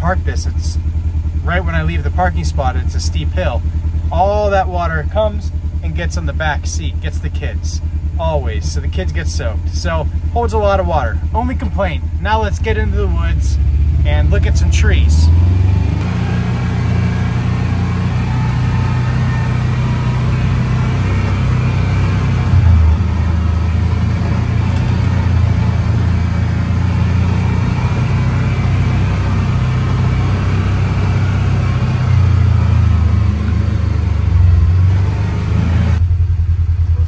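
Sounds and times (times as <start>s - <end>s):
vehicle engine droning: 0.0s - 37.0s.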